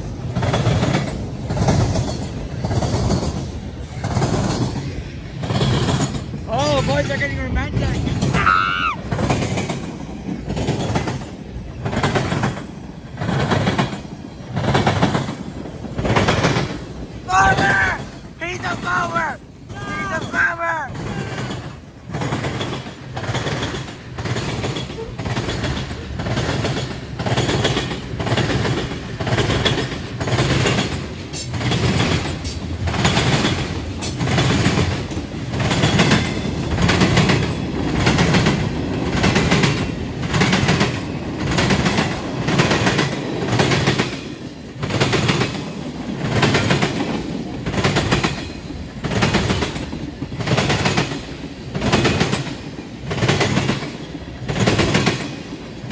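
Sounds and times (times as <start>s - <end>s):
rumble of passing train cars: 0.0s - 55.9s
train wheels banging over crossing: 0.0s - 55.9s.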